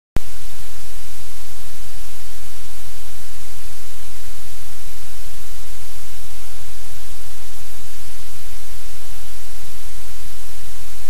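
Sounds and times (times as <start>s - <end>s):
static hiss: 0.2s - 11.0s.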